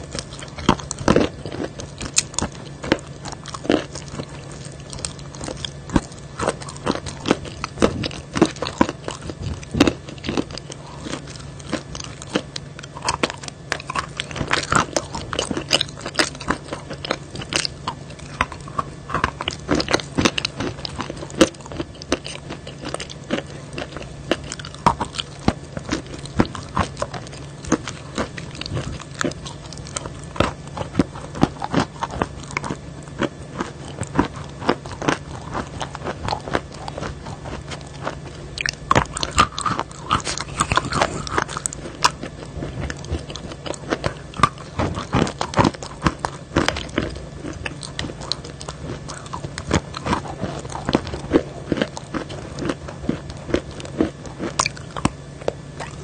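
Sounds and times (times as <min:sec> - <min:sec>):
low steady hum: 0:00.0 - 0:56.0
mouth chewing and crunching: 0:00.0 - 0:56.0.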